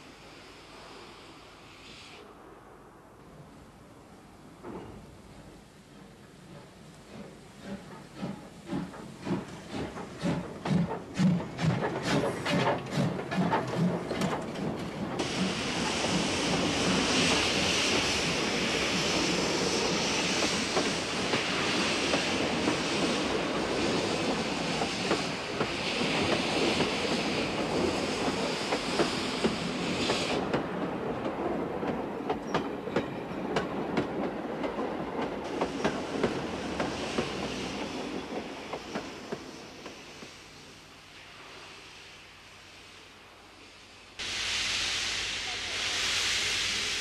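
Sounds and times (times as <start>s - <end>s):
steam locomotive hissing: 0.0s - 2.3s, 4.7s - 47.0s.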